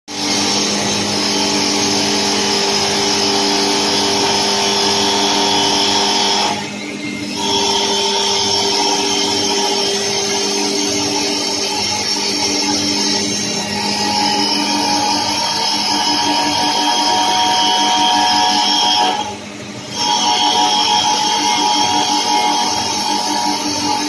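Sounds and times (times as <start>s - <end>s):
lathe spindle motor whine: 0.2s - 24.0s.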